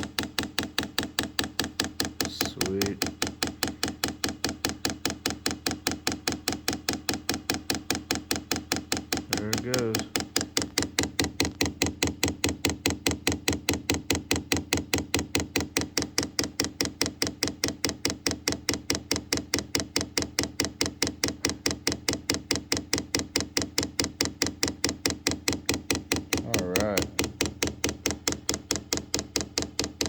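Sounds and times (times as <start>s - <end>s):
fuel pump ticking rapidly: 0.0s - 30.0s.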